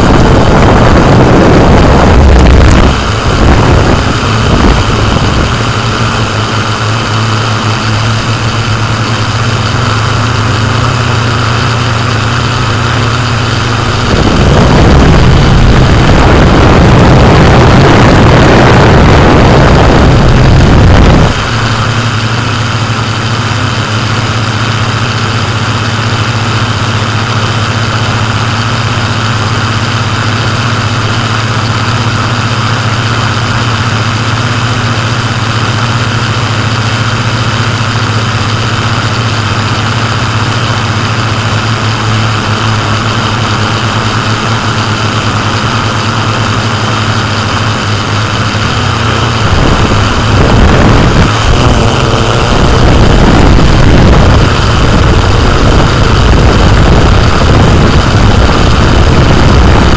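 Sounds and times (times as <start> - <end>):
drone motors humming: 0.0 - 59.9
low rumble: 0.0 - 59.9.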